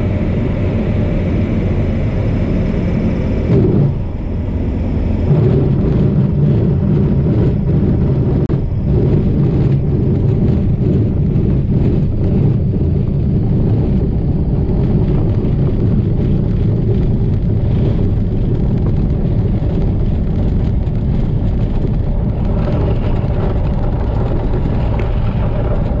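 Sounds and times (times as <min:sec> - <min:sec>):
light aircraft engine in cockpit: 0:00.0 - 0:26.0.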